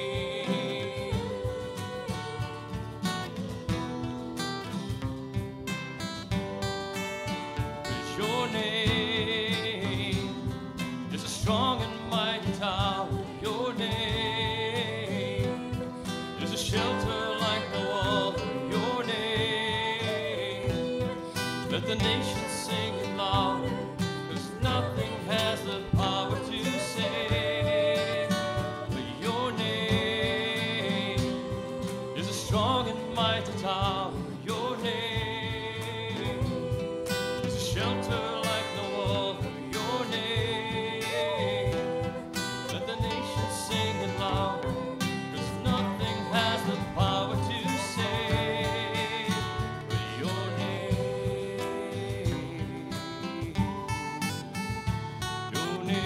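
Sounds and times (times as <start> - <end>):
man and woman singing: 0.0 - 5.0, 7.5 - 56.0
strummed acoustic guitars: 0.0 - 56.0.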